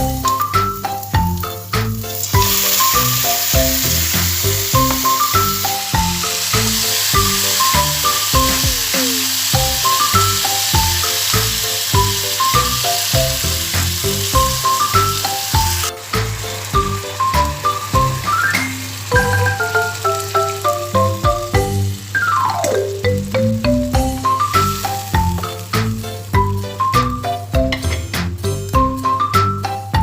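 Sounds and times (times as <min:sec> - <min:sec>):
food sizzling in a pan: 0:00.0 - 0:30.0
marimba-like background music: 0:00.0 - 0:30.0.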